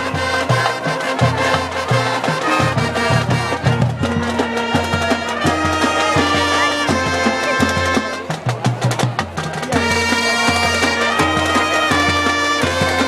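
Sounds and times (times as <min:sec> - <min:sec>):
brass holding chords: 0:00.0 - 0:08.4, 0:09.8 - 0:13.0
steady drum beat: 0:00.0 - 0:13.0.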